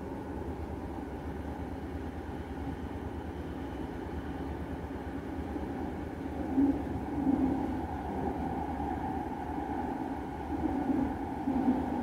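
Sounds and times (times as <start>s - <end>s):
train car rumble and hum: 0.0s - 12.0s.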